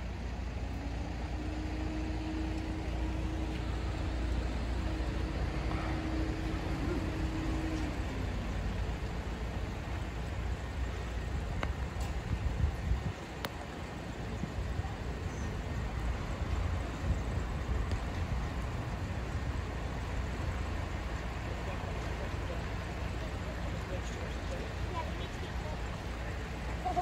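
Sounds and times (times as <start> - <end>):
held hum: 0.0 - 27.0
vehicle engine rumbling: 0.0 - 27.0.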